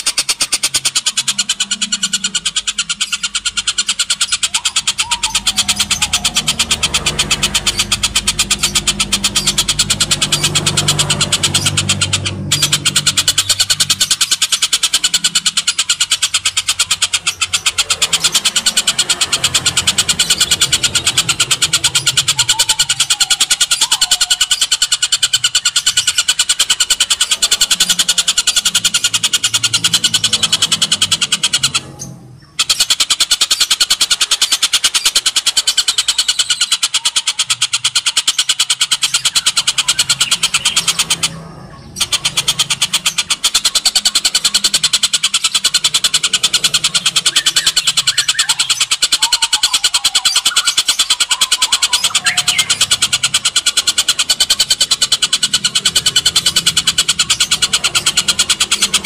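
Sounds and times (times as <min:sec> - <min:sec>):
bird rasping chatter: 0:00.0 - 0:59.0.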